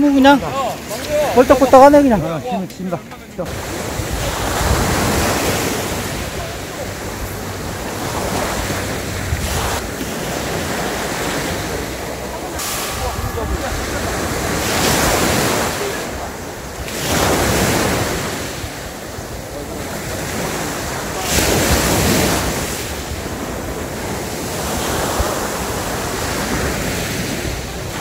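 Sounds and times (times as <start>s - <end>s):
sea waves breaking on shore: 0.0s - 28.0s
wind rumbling on microphone: 3.5s - 28.0s.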